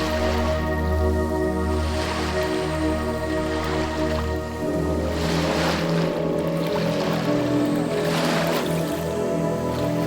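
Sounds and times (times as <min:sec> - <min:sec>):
soft slow relaxation music: 0:00.0 - 0:10.0
ocean waves breaking: 0:01.7 - 0:10.0.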